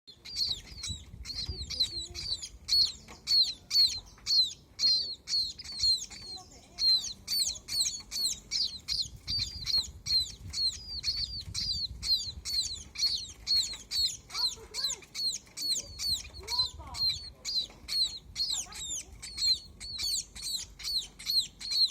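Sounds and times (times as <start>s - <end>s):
baby birds chirping: 0.1s - 21.9s.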